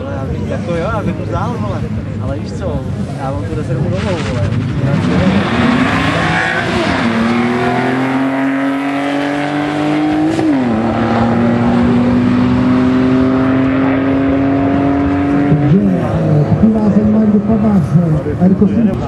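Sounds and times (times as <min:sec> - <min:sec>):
car engine accelerating hard: 0:03.6 - 0:19.0.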